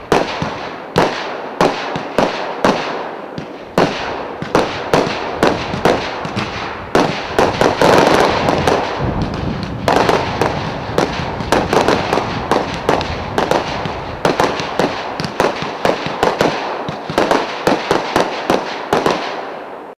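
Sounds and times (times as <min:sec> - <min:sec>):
fireworks shots and bursts: 0:00.0 - 0:20.0.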